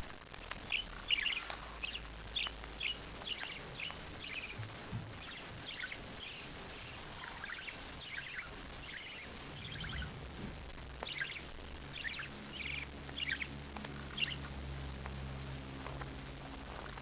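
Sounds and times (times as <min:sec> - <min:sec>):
steady low hum: 0:00.0 - 0:17.0
bird chirping: 0:00.6 - 0:10.4, 0:11.0 - 0:15.1.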